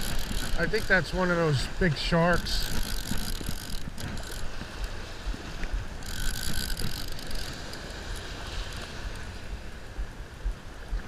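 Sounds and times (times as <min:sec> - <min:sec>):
fishing reel clicks: 0:00.0 - 0:09.2
surf breaking on beach: 0:00.0 - 0:10.4
wind buffeting microphone: 0:00.0 - 0:11.0.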